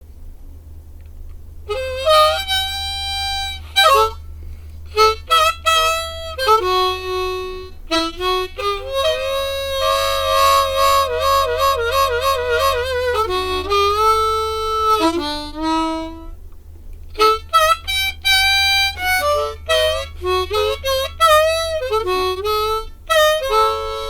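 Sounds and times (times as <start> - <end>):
low steady hum: 0.0 - 24.0
harmonica playing: 1.6 - 16.5, 17.1 - 24.0.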